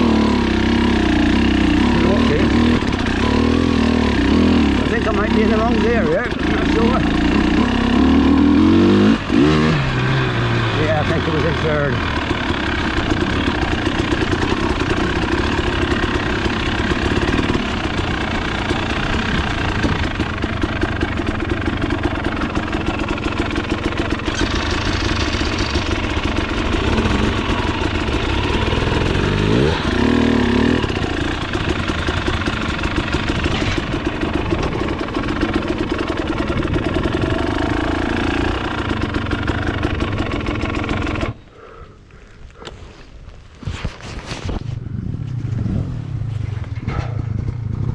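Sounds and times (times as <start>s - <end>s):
motorcycle engine revving: 0.0s - 41.8s.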